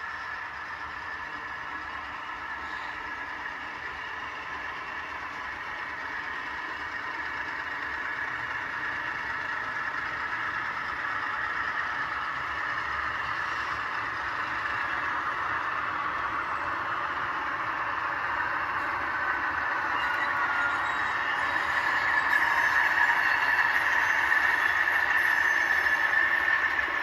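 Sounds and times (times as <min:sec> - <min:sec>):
model locomotive diesel engine sound: 0:00.0 - 0:27.0.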